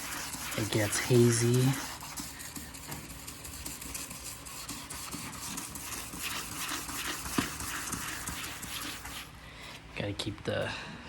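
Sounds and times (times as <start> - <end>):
wet sandpaper rubbing on plastic: 0.0 - 9.3.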